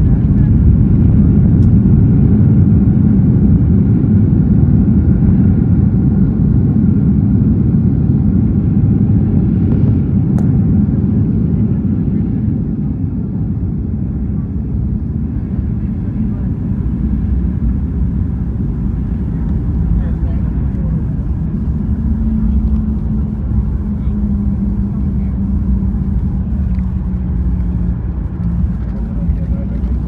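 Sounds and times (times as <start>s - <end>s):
rumble of engines and wheels: 0.0s - 30.0s.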